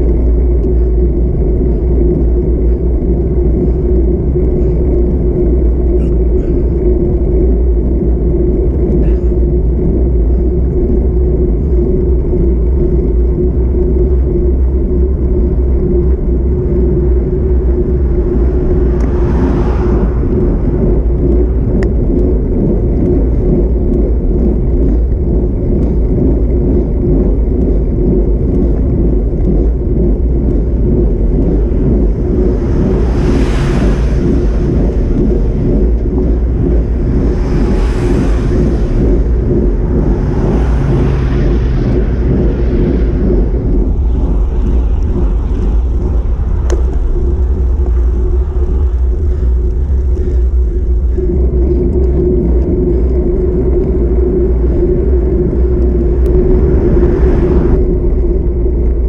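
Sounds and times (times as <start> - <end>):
cars passing whooshes: 0.0 - 59.0
steady hum: 0.0 - 59.0
wind rumble on microphone: 0.0 - 59.0.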